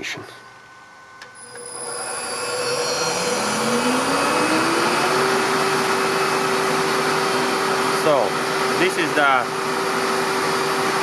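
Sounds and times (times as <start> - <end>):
electric motor whine rising: 1.2 - 11.0.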